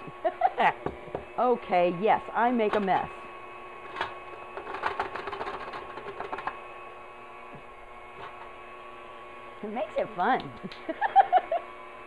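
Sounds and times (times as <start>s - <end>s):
stand mixer motor running: 0.0s - 12.0s.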